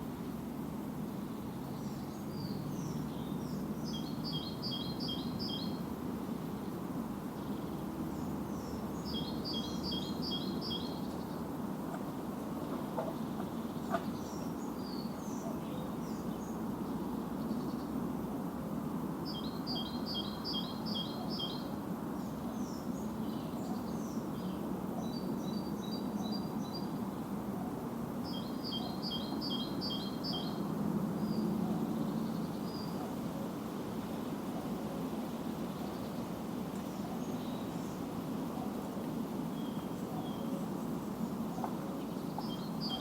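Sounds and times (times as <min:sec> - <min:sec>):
songbirds singing: 0:01.5 - 0:05.9, 0:07.4 - 0:11.6, 0:12.5 - 0:18.0, 0:19.2 - 0:27.4, 0:28.2 - 0:33.2, 0:35.6 - 0:43.0.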